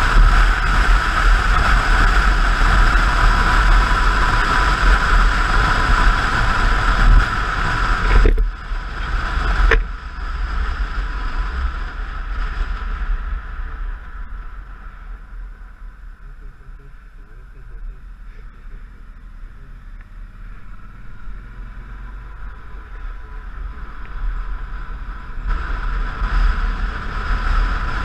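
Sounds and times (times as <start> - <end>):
wind rush over microphone: 0.0 - 19.7, 20.5 - 28.0
motorcycle engine and tyre rumble: 0.0 - 28.0.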